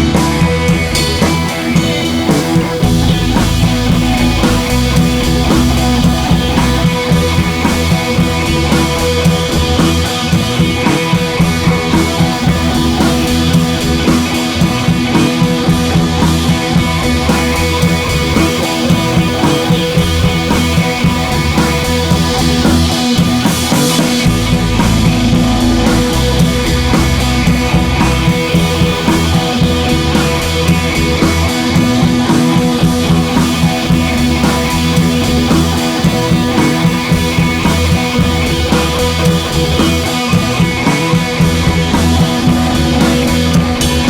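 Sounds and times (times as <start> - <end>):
driving drum beat: 0.0 - 44.0
electric guitar: 0.0 - 44.0
rock music: 0.0 - 44.0.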